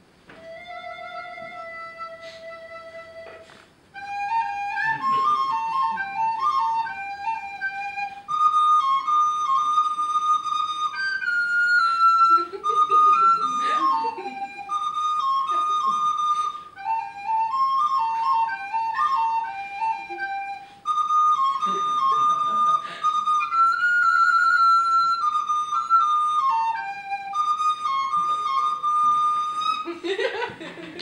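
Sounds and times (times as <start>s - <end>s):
solo flute melody: 0.3s - 30.6s.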